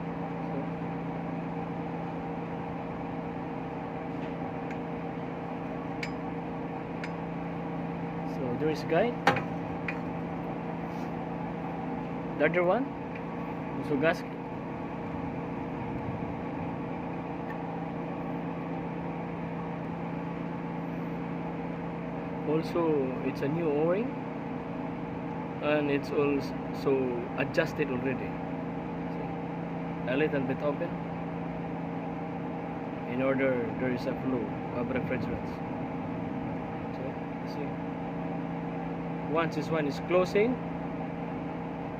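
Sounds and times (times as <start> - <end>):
machinery hum: 0.0 - 41.9.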